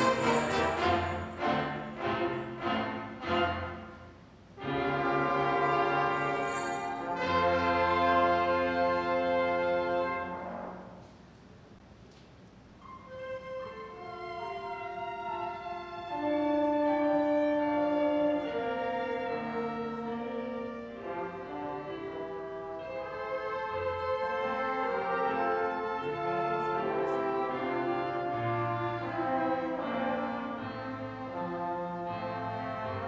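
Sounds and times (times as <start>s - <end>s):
orchestra playing slow music: 0.0s - 33.0s.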